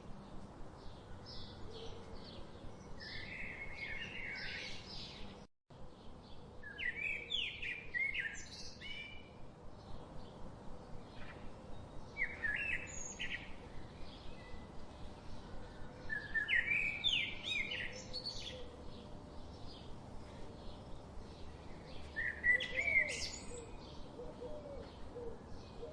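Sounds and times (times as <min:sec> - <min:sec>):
songbirds chirping: 0:00.0 - 0:25.9
steady background hiss: 0:00.0 - 0:25.9.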